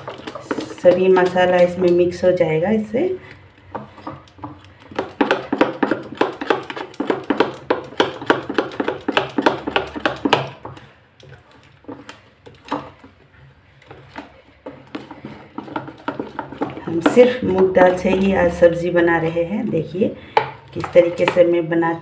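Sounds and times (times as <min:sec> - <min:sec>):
spoon beating batter in bowl: 0:00.0 - 0:22.0.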